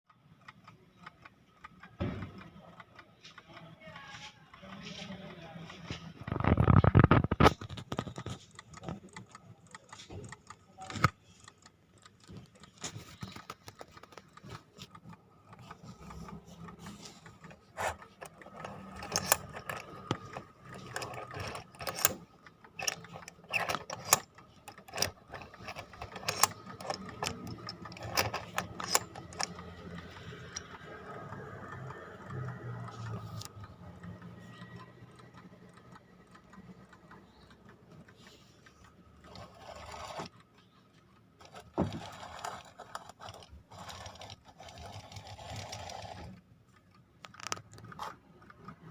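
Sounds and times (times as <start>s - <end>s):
clockwork clicking and whirring: 0.1s - 48.9s.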